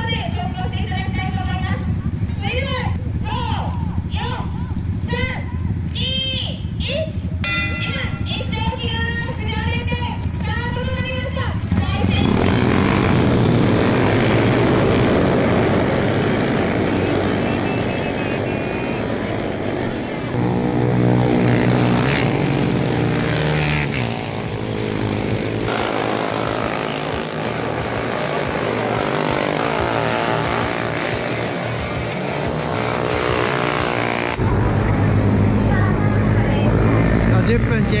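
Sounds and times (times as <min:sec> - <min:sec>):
motorcycle engines revving: 0:00.0 - 0:38.0.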